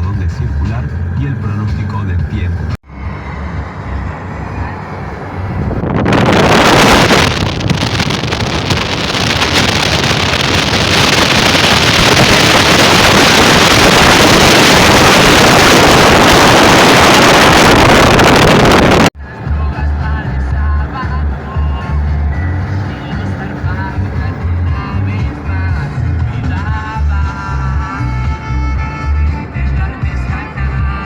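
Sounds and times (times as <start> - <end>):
wind rushing over microphone: 2.3 - 28.3.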